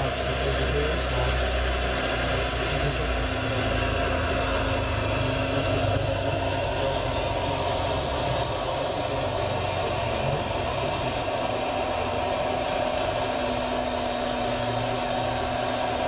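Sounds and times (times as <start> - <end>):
radio-controlled model engine hum: 0.0 - 16.0.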